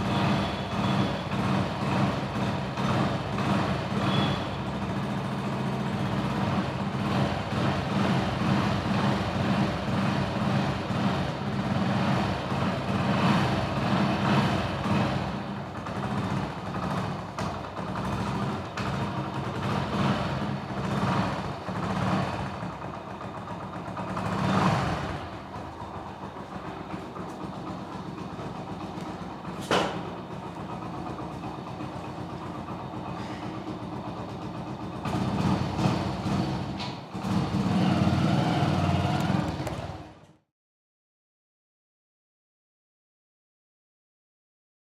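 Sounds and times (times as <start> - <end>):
motorcycle engine revving: 0.0 - 40.3.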